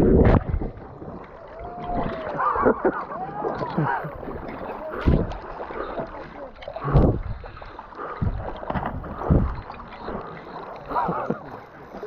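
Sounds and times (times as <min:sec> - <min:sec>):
water sloshing around kayak: 0:00.0 - 0:12.0.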